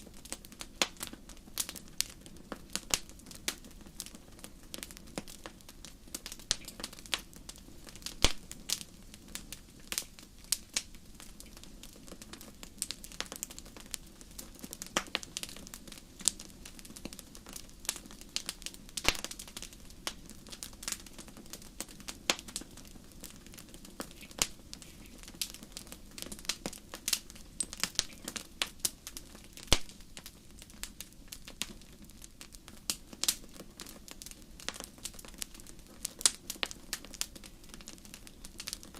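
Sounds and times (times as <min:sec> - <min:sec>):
low fire hiss: 0:00.0 - 0:38.9
wood fire crackling: 0:00.0 - 0:38.9.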